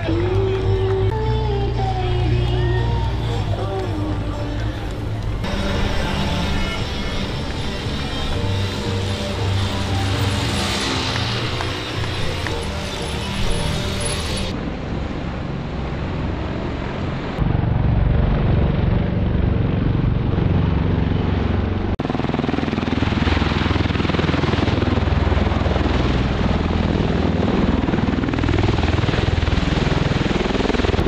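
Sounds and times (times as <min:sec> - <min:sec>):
helicopter rotor and engine noise: 0:00.0 - 0:31.0.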